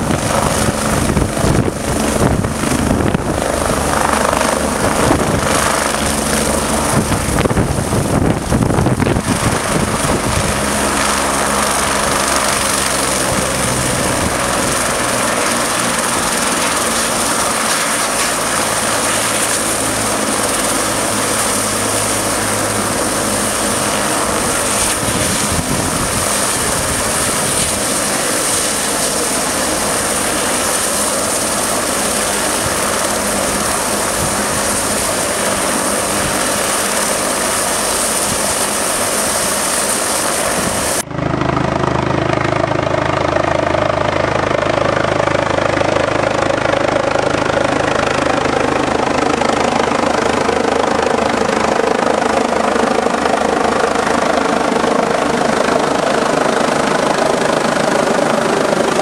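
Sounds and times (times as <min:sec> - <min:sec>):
helicopter rotor and turbine whine: 0:00.0 - 0:59.0.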